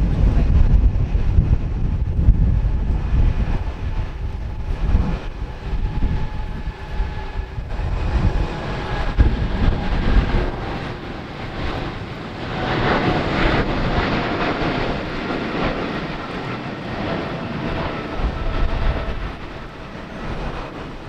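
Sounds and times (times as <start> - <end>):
jet engine rushing noise: 0.0 - 21.0.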